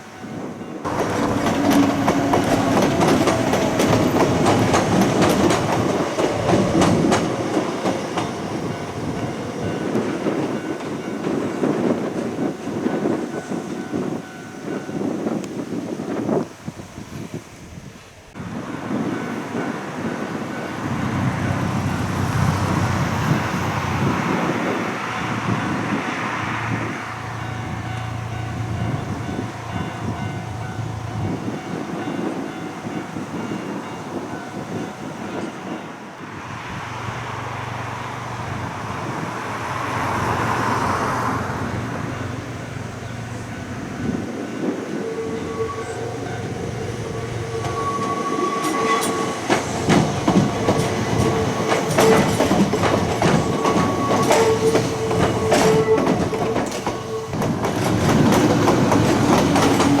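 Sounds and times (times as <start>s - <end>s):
electric train rolling past: 0.0s - 60.0s.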